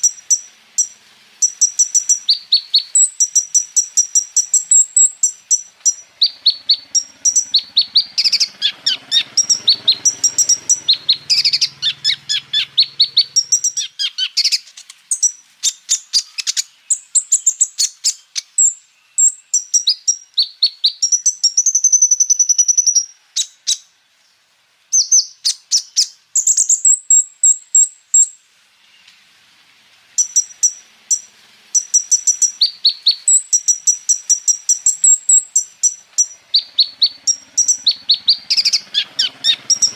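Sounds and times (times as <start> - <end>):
bird chirping: 0.0 - 29.3, 30.1 - 39.9.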